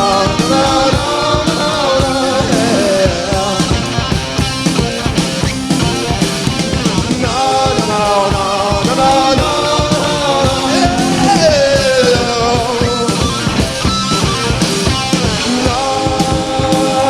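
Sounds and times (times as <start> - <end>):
bass: 0.0 - 17.0
drums: 0.0 - 17.0.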